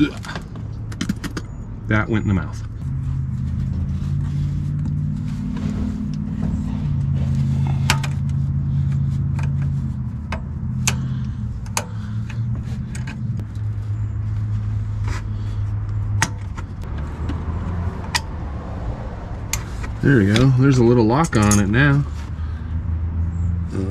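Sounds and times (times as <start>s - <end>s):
vehicle engine drone: 0.0s - 23.9s.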